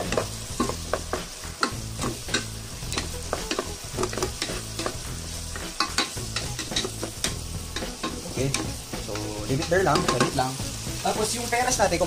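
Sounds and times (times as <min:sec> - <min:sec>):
sauce sizzling softly: 0:00.0 - 0:12.0.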